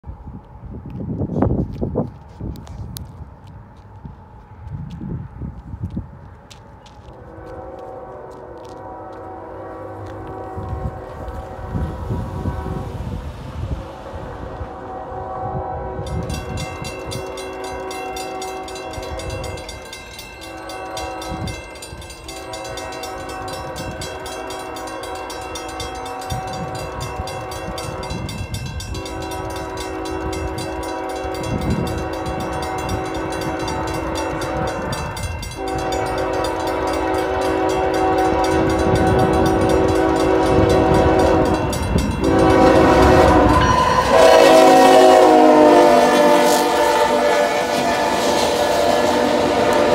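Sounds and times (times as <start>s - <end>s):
low rumble of freight train: 0.0s - 49.9s
locomotive air horn blasts: 7.2s - 49.9s.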